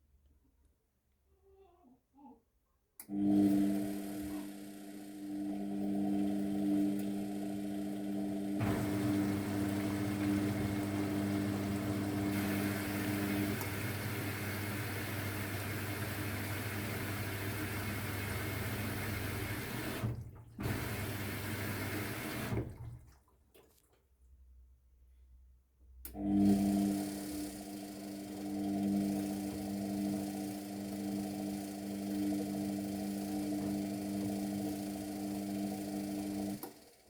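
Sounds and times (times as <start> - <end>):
washing machine hum: 3.0 - 23.8, 26.1 - 37.0
water rushing into washing machine: 3.1 - 23.8, 26.1 - 37.0.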